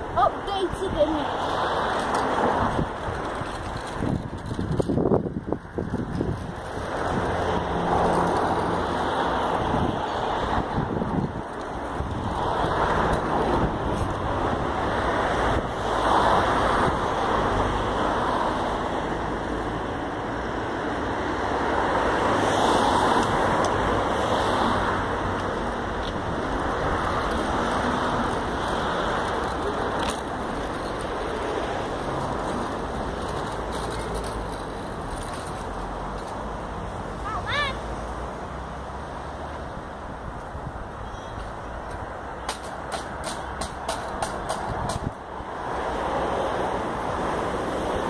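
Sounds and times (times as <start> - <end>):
scooter wheels rolling on asphalt: 0.0 - 48.0.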